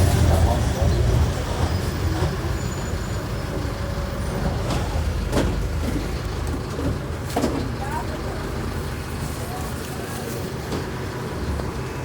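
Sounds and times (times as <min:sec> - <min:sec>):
diesel bus engine rumbling: 0:00.0 - 0:12.0.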